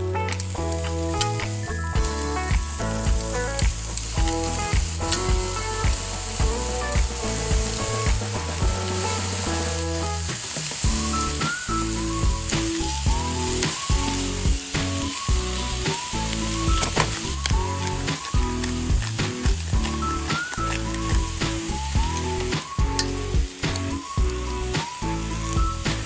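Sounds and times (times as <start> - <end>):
background music with bass line: 0.0 - 26.0
food sizzling in a hot pan: 0.4 - 26.0.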